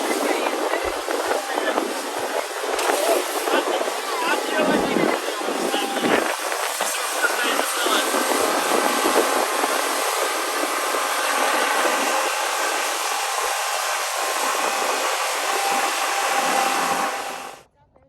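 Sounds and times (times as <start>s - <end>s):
motorboat wind and water rushing: 0.0s - 17.7s.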